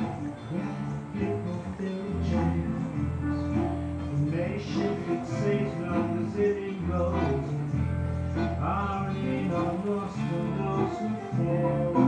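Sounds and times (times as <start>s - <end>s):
song with guitar: 0.0s - 12.0s.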